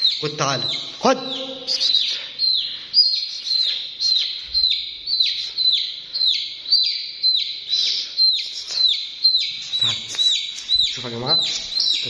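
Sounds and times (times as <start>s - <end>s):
chick peeping loudly: 0.0s - 12.0s.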